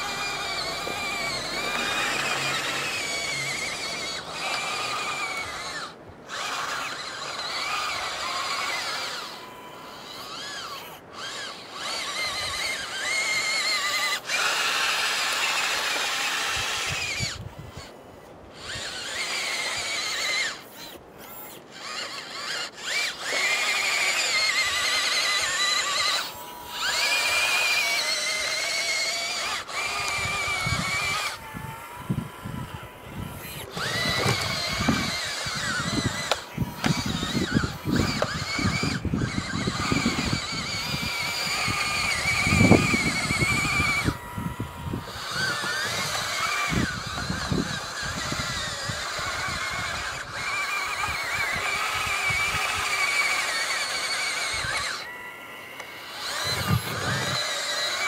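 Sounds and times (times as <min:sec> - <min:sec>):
electric motors and gearboxes whining: 0:00.0 - 0:58.0.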